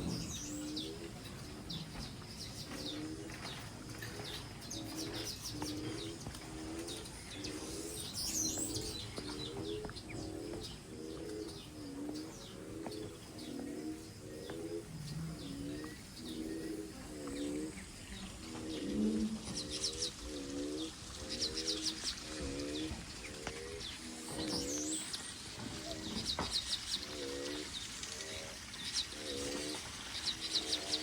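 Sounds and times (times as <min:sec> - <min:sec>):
bird cooing: 0:00.0 - 0:31.0
small birds chirping: 0:00.0 - 0:31.0.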